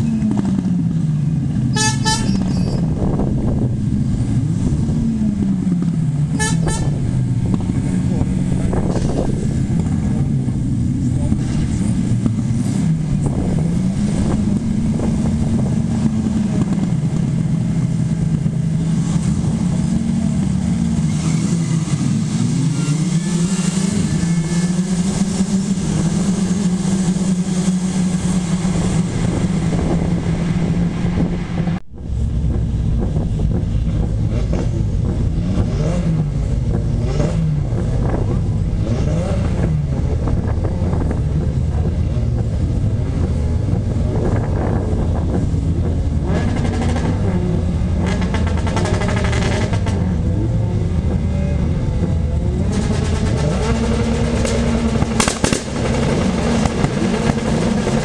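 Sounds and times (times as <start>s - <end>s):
racing car engines: 0.0s - 58.0s.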